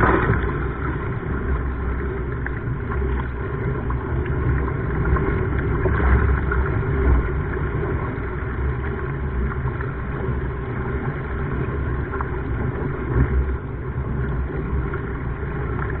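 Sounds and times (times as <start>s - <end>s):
sea water: 0.0s - 16.0s
wind on microphone: 0.0s - 16.0s.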